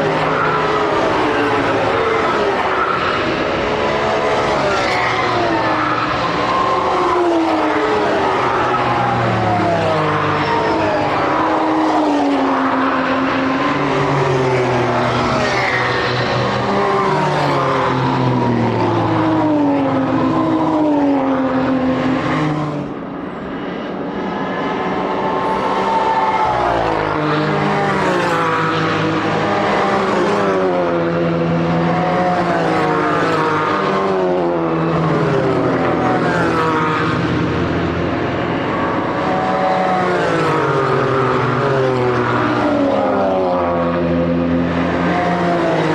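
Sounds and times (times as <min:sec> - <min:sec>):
race car engines passing: 0:00.0 - 0:45.9.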